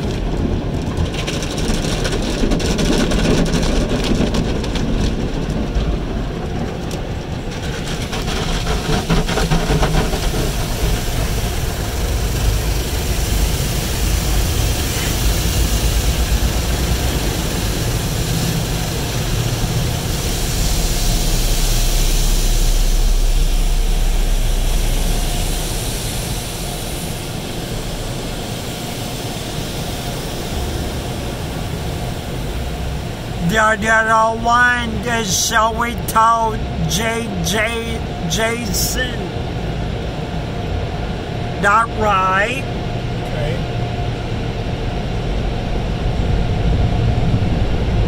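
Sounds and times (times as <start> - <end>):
deep rumble: 0.0 - 38.4, 42.6 - 48.0
car wash water jets hissing: 0.0 - 48.0.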